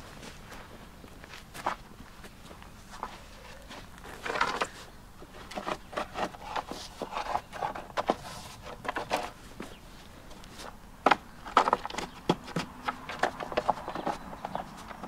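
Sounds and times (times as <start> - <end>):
wooden board scraping soil: 2.8 - 15.0.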